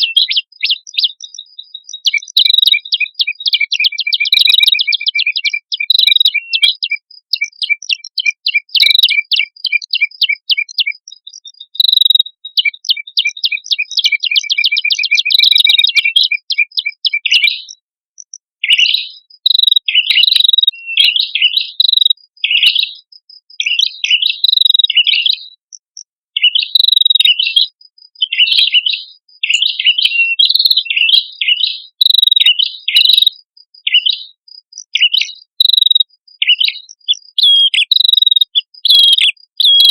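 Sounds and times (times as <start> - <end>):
birds chirping trills: 0.0 - 17.6, 18.6 - 22.9, 26.4 - 39.9.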